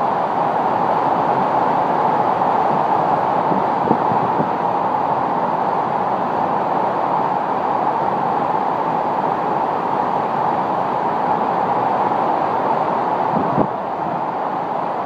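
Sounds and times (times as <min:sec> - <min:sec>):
strong wind: 0:00.0 - 0:15.0.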